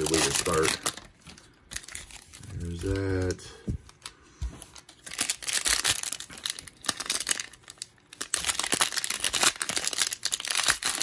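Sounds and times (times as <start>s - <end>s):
cellophane wrapper crinkling: 0.0s - 11.0s.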